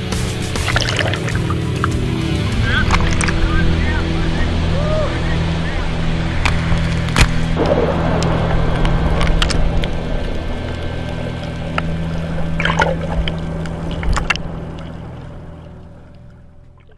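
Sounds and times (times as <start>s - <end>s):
water splashing: 0.0s - 16.9s.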